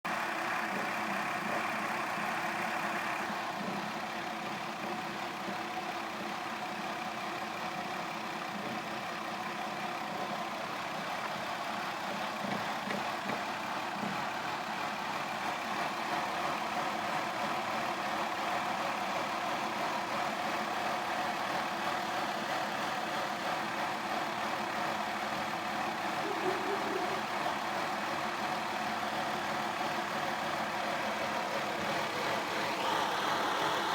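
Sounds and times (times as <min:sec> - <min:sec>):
car engine idling and rattling: 0:00.1 - 0:33.9.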